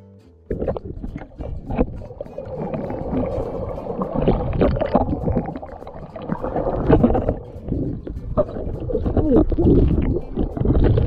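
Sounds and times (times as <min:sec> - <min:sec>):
water sloshing and gurgling: 0:00.5 - 0:11.0.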